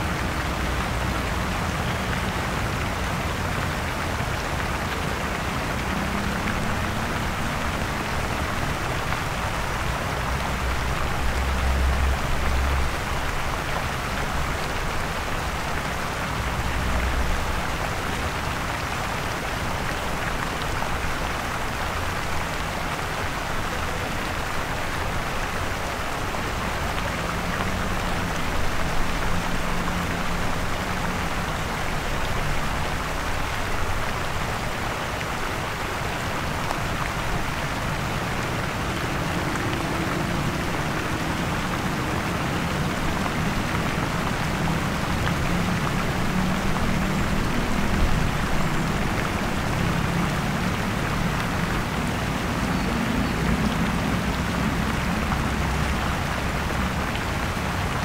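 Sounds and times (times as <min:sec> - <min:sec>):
dense street hiss: 0:00.0 - 0:58.0.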